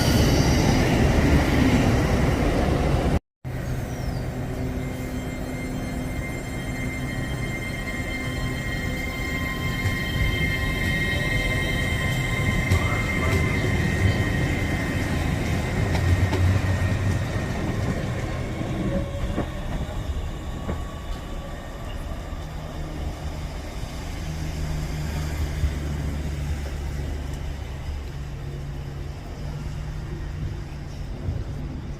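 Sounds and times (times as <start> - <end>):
train rumble: 0.0 - 31.9
high-pitched train whine: 3.5 - 31.4.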